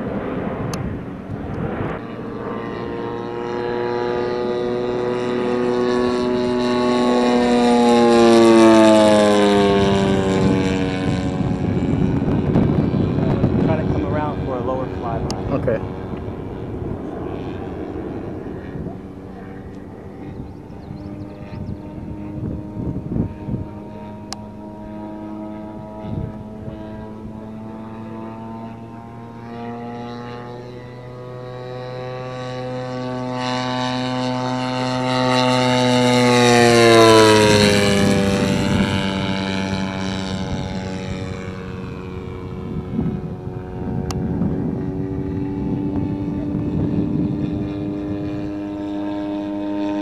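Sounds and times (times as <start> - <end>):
model plane engine drone: 0.0 - 50.0
wind buffeting microphone: 0.0 - 50.0.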